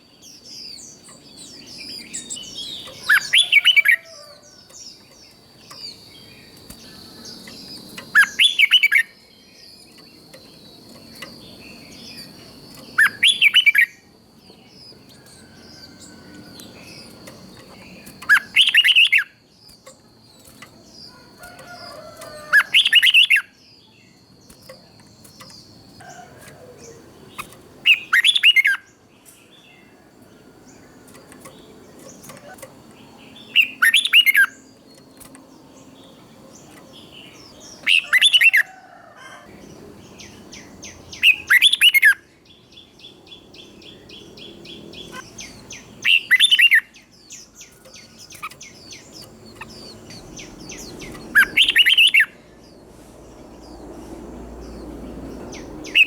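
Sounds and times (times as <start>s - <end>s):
bird song phrase: 0.0s - 56.0s.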